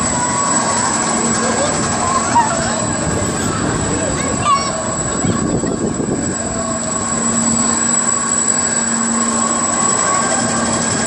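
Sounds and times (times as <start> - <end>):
low drone: 0.0 - 11.0
ride machinery humming: 0.0 - 11.0.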